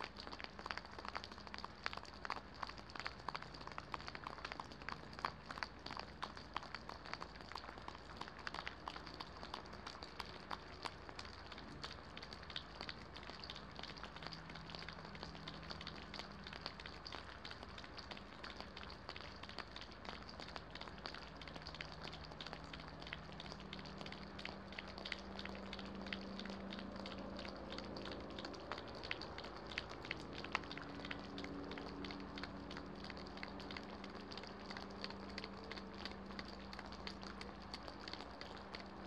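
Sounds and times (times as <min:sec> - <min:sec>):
light rain: 0:00.0 - 0:39.0.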